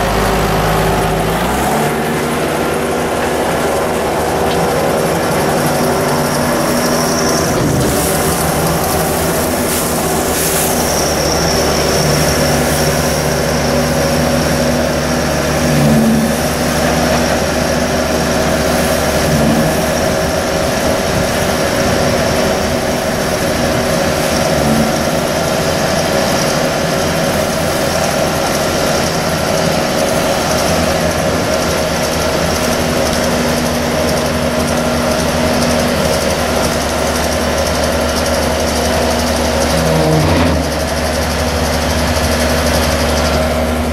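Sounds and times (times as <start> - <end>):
tractor diesel engine running: 0.0 - 43.9
unloading conveyor: 0.0 - 43.9.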